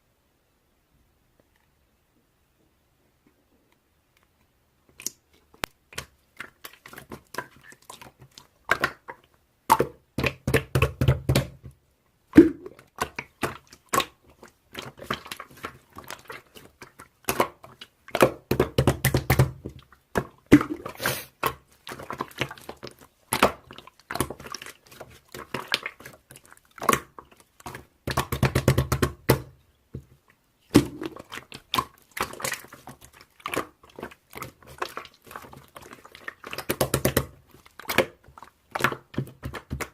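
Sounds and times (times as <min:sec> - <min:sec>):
slime squeezed with wet pops: 0:04.9 - 0:11.7, 0:12.3 - 0:39.9.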